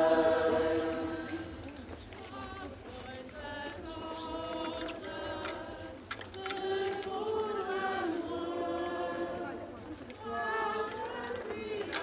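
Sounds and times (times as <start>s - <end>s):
crowd singing a hymn: 0.0s - 12.0s.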